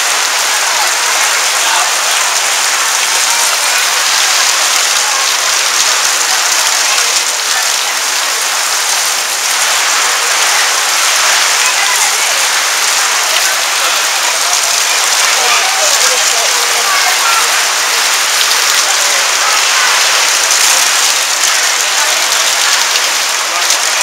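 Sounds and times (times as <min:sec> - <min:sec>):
heavy rain on canvas roof: 0:00.0 - 0:24.0.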